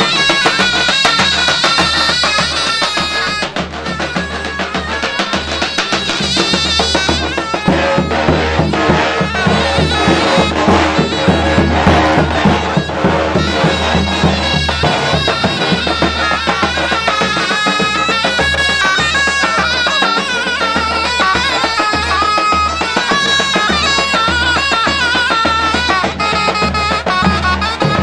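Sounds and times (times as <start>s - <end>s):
big drum beating: 0.0s - 28.0s
shrill reed pipe melody: 0.0s - 28.0s.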